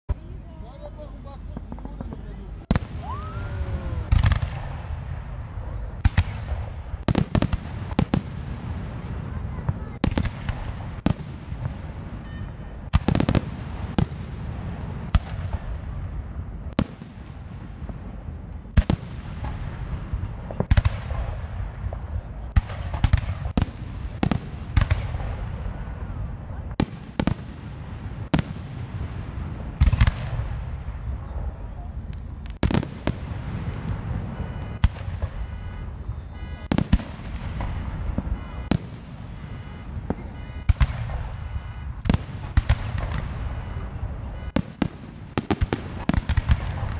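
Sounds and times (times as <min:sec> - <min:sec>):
fireworks bursting with booms: 0:00.1 - 0:46.9
steady low rumble: 0:00.1 - 0:46.9.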